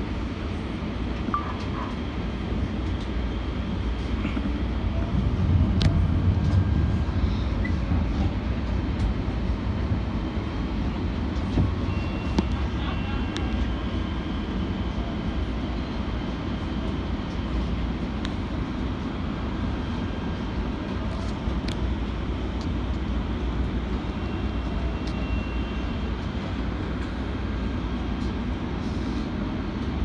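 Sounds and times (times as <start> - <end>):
rumble of train wheels on rail: 0.0 - 30.0.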